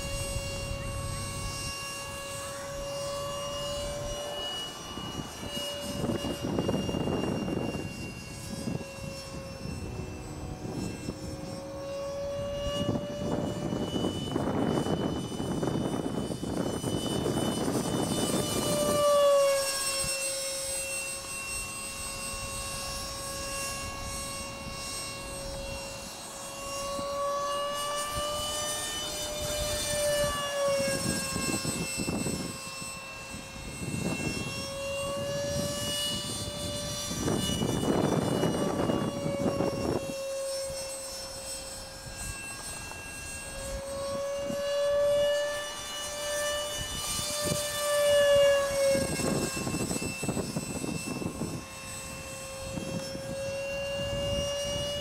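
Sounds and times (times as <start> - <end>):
model jet engine whine: 0.0 - 55.0.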